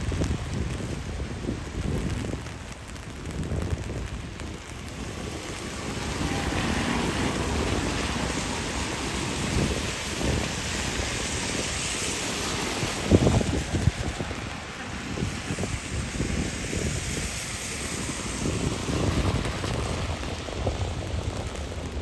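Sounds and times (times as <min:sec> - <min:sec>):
tyres hissing on wet pavement: 0:00.0 - 0:22.0
wind buffeting microphone: 0:00.0 - 0:22.0.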